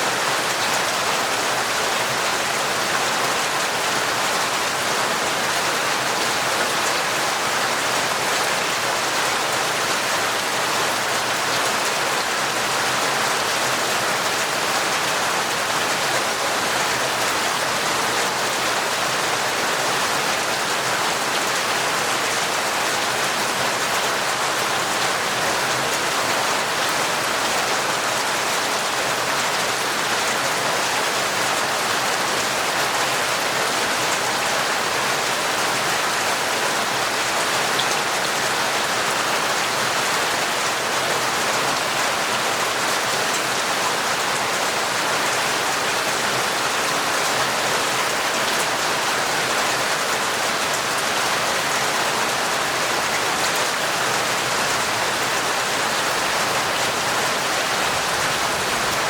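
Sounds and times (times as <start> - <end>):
torrential rain: 0.0 - 59.0.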